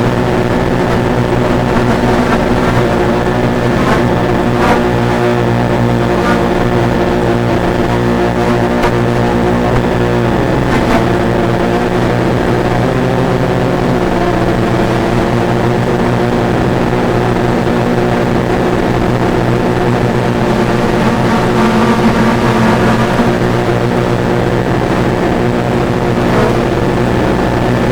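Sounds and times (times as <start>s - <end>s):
drone propellers whirring: 0.0s - 27.9s.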